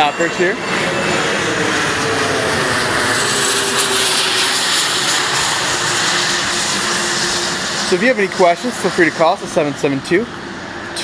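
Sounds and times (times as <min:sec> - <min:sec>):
aircraft flying low overhead: 0:00.0 - 0:11.0.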